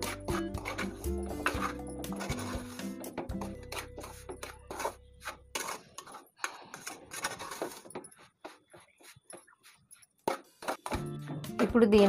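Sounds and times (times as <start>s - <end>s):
spoon scraping metal pan: 0.0s - 11.5s.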